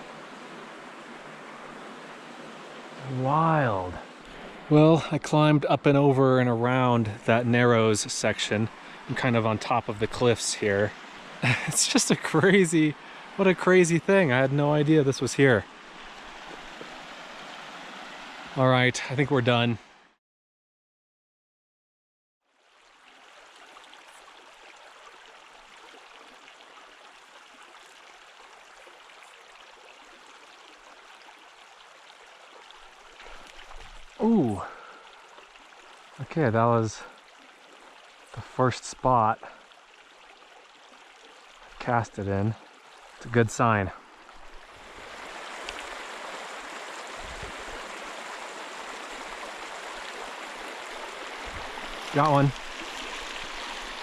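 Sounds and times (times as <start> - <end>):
creek water rushing over rocks: 0.0 - 19.5, 22.6 - 54.0
mountain stream flowing: 0.0 - 20.2, 22.5 - 54.0.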